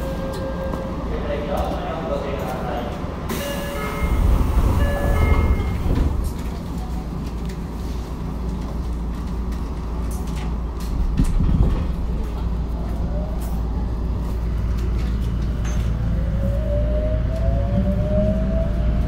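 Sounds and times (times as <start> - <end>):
subway train hum and rumble: 0.0 - 19.0.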